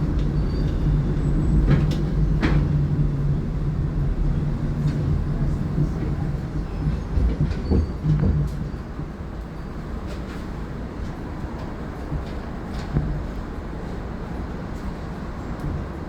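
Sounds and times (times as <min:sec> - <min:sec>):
tram rumble and hum: 0:00.0 - 0:16.0.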